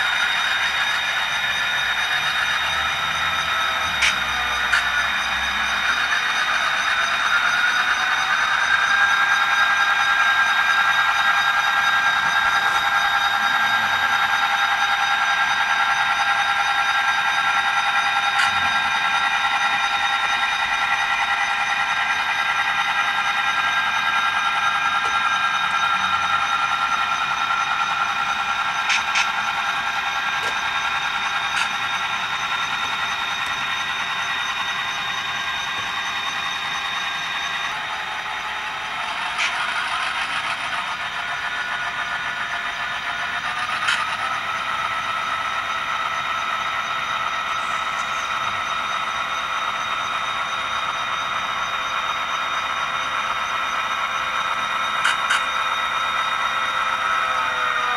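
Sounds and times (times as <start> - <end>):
diesel engine through small speaker: 0.0 - 57.9.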